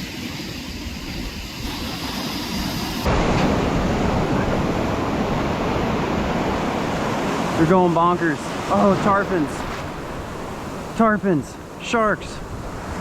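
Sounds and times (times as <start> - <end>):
waves breaking: 0.0 - 13.0
wind: 0.0 - 13.0.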